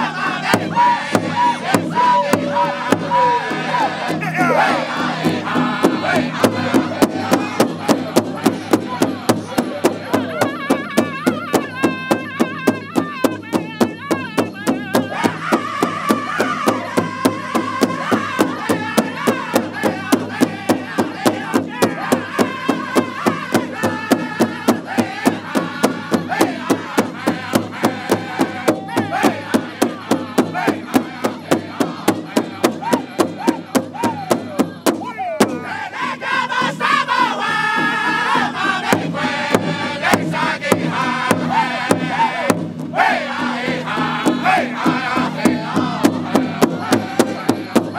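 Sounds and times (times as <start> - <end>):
high lead voice singing: 0.0 - 47.9
large hand drum beating: 0.0 - 47.9
men singing in high voices: 0.0 - 47.9.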